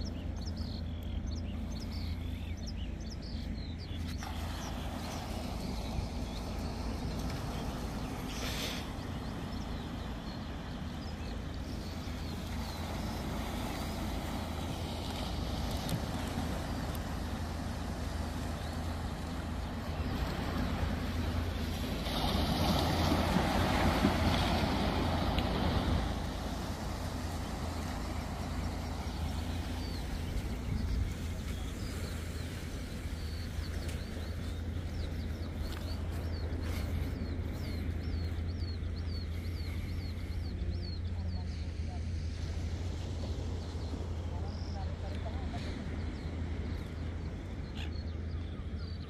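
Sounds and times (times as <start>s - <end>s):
small waves washing on shore: 0.0s - 49.0s.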